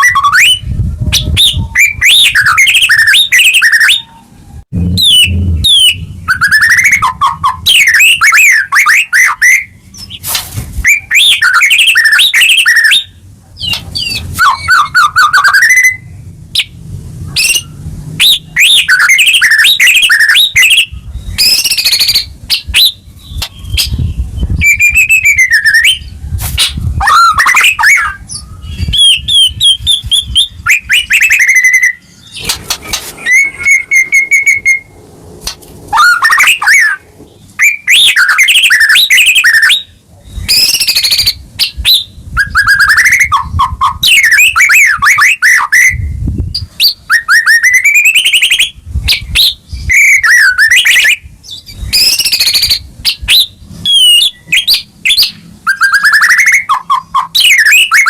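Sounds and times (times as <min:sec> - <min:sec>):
bird singing whistles and trills: 0:00.0 - 0:10.2, 0:10.8 - 0:35.0, 0:35.9 - 0:58.0.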